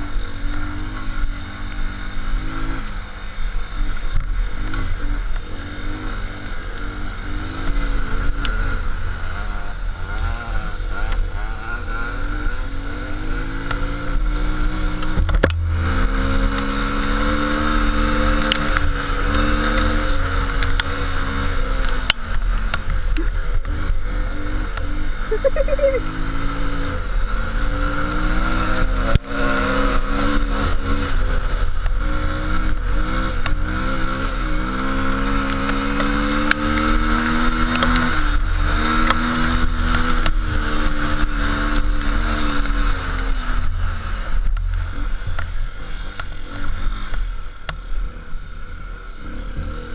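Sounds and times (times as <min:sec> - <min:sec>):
road noise: 0:00.0 - 0:49.9
vehicle engine running: 0:00.0 - 0:49.9.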